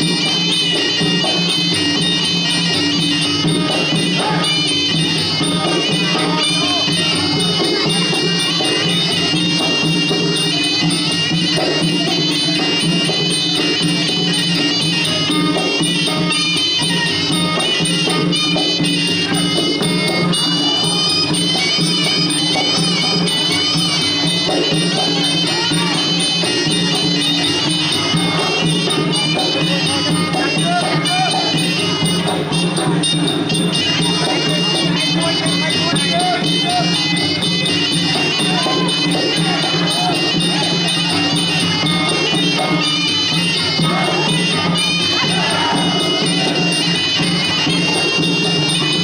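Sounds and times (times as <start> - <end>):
percussion steady beat: 0.0 - 49.0.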